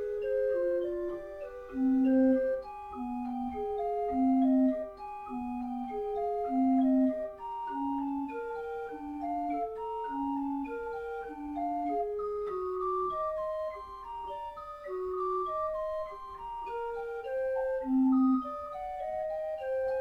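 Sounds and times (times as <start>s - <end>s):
pipe organ playing: 0.0s - 20.0s.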